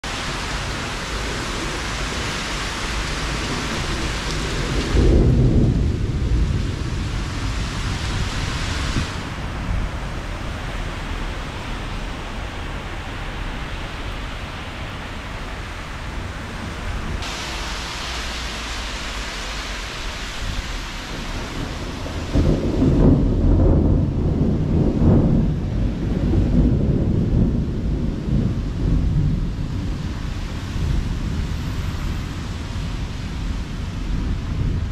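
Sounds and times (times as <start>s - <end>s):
rain falling: 0.0s - 34.9s
low rumble of thunder: 0.1s - 17.6s, 20.0s - 34.9s.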